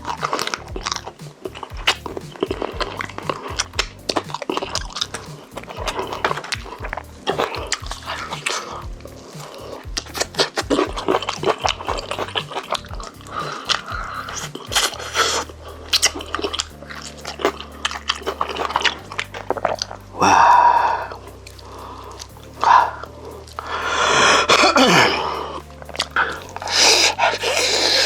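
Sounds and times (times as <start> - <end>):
chewing crisp chicken: 0.0 - 28.0
quiet background music: 0.0 - 28.0.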